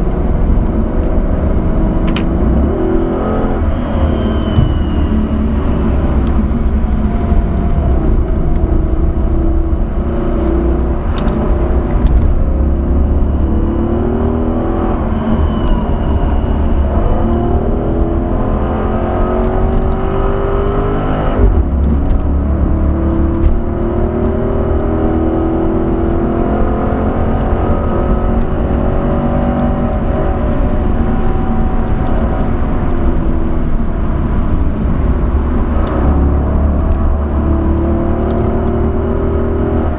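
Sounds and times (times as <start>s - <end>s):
car engine accelerating: 0.0s - 39.9s
road and tyre noise: 0.0s - 39.9s.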